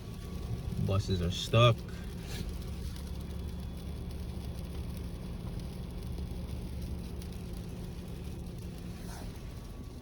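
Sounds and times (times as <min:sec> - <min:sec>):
car engine rumble inside cabin: 0:00.0 - 0:10.0.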